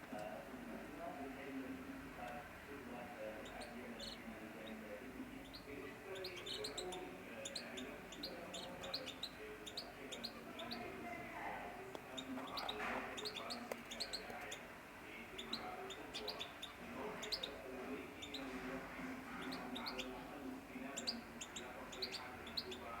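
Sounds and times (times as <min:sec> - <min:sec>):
canaries chirping: 0:00.0 - 0:23.0.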